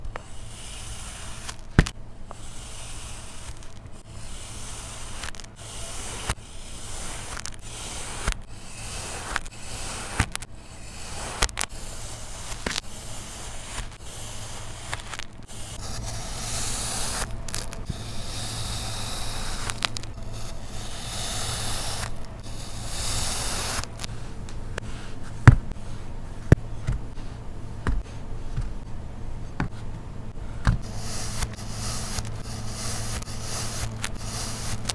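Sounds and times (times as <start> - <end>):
steady sand hiss: 0.0 - 25.2, 30.8 - 34.9.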